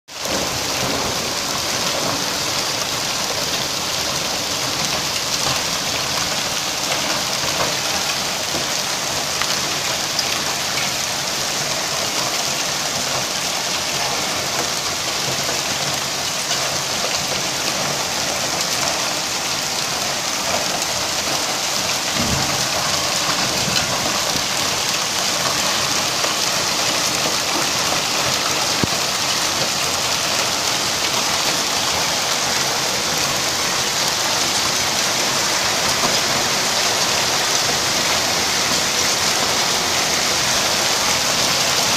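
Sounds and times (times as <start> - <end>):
hail and heavy rain pelting: 0.1 - 41.9.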